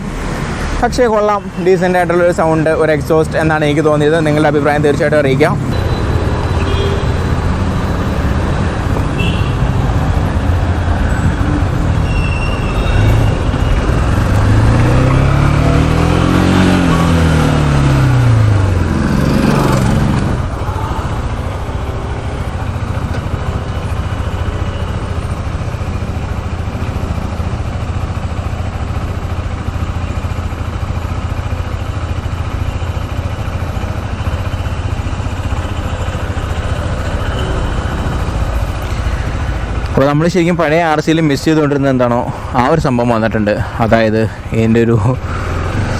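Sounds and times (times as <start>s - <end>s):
wind and road noise: 0.0s - 45.9s
motorcycle engine running: 0.4s - 45.9s.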